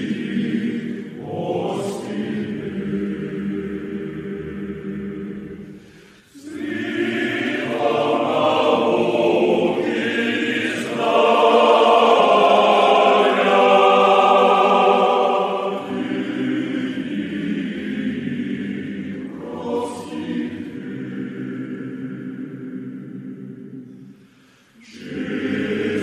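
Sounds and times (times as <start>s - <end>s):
choir singing chant: 0.0s - 26.0s.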